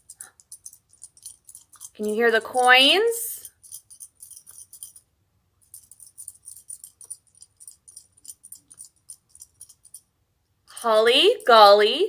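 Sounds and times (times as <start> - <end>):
coins jingling in hands: 0.0 - 10.1.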